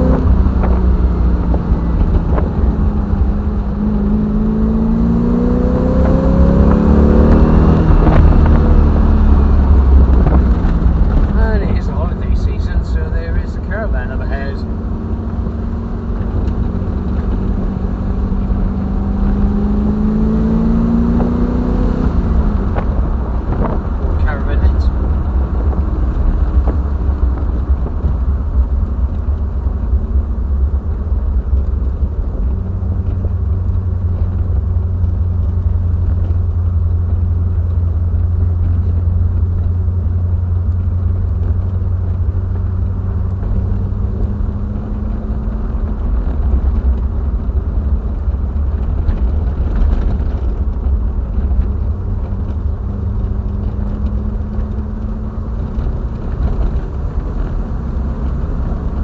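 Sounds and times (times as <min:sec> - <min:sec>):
car engine cruising: 0:00.0 - 0:59.0
low road rumble: 0:00.0 - 0:59.0.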